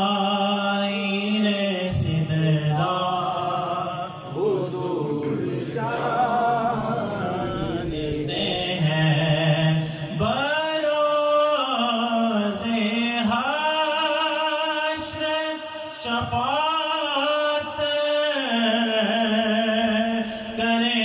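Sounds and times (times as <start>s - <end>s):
man singing unaccompanied: 0.0s - 5.2s, 6.0s - 21.0s.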